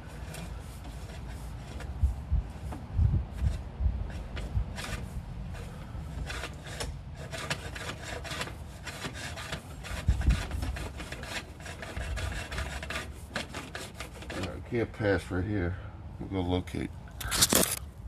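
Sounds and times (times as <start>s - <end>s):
camera scraping along pipe: 0.0s - 14.8s, 17.1s - 18.0s.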